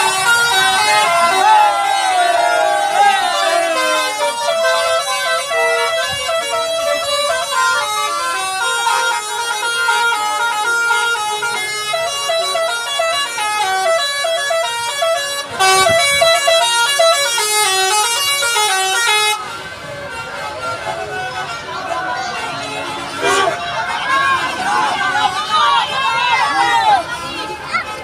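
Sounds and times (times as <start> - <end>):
bus horn playing a tune: 0.0 - 28.0.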